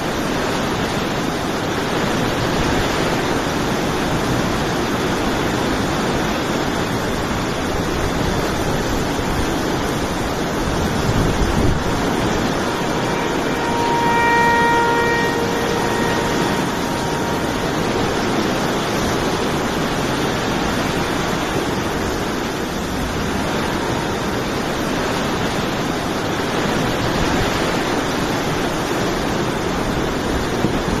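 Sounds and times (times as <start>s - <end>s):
hurricane-force wind rushing: 0.0s - 31.0s.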